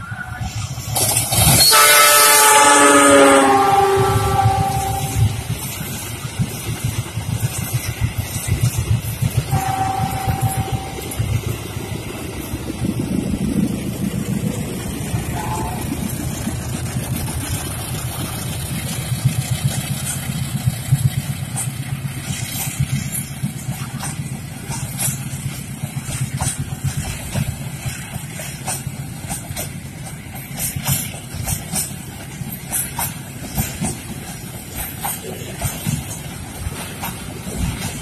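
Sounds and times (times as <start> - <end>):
locomotive engine drone: 0.0 - 38.0
train wagons rolling: 0.0 - 38.0.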